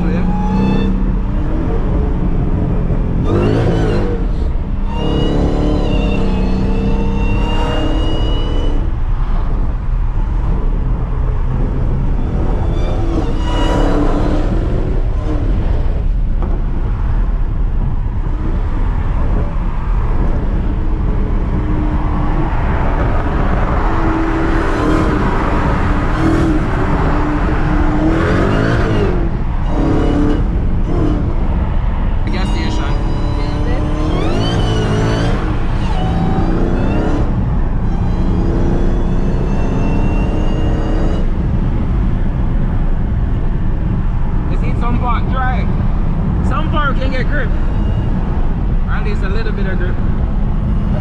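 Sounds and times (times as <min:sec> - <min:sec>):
car engine revving: 0:00.0 - 0:51.0
loud road noise: 0:00.0 - 0:51.0.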